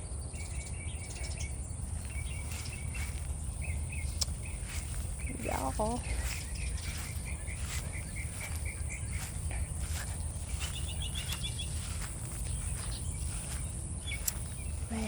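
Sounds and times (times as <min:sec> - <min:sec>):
low rumble: 0:01.6 - 0:15.0.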